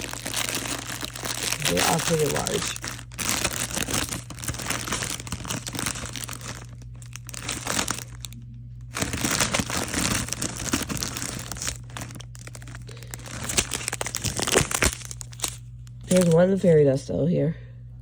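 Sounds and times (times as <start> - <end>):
plastic bags crinkling: 0.0 - 16.8.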